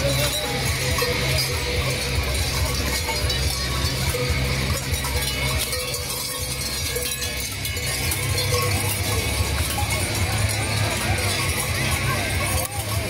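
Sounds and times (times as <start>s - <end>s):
large cowbells clanging: 0.0s - 13.0s.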